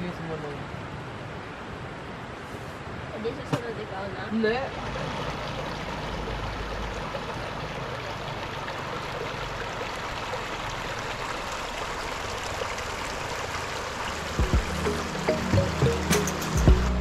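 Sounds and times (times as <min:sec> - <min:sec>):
river flowing over stones: 0:00.0 - 0:17.0.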